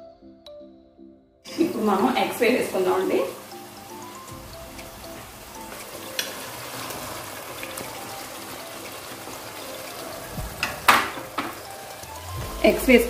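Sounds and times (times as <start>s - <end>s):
gravy sizzling in a pot: 1.5s - 13.0s.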